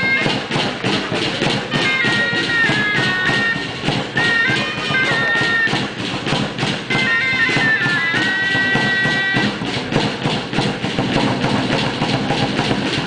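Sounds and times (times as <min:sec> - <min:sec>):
high reed pipe notes: 0:00.0 - 0:11.1
fast drum beat: 0:00.0 - 0:13.0.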